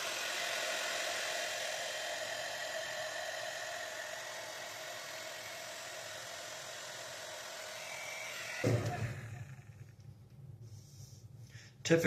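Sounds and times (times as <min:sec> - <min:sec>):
blow dryer whirring: 0:00.0 - 0:10.2.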